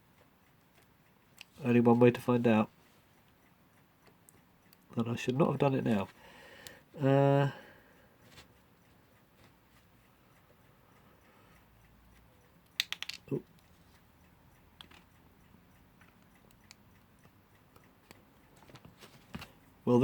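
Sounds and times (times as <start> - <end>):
clock parts clicking: 0.1 - 6.9, 8.2 - 18.9.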